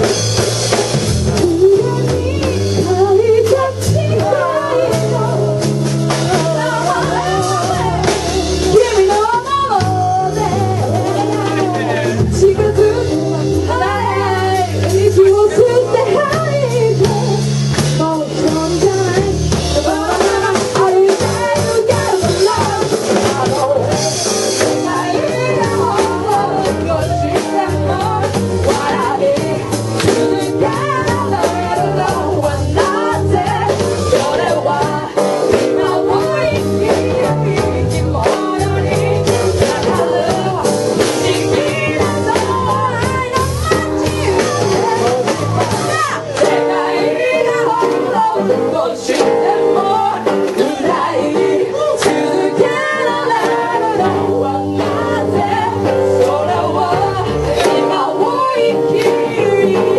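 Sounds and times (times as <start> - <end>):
bass: 0.0 - 59.9
drum kit beat: 0.0 - 59.9.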